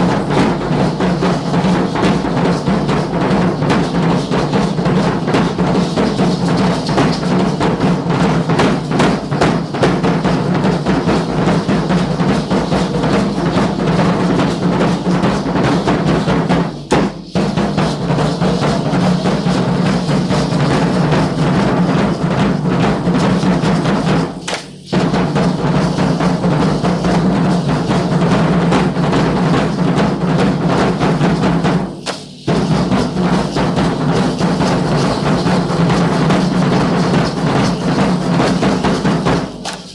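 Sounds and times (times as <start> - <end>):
drums beating fast rhythm: 0.0 - 39.9.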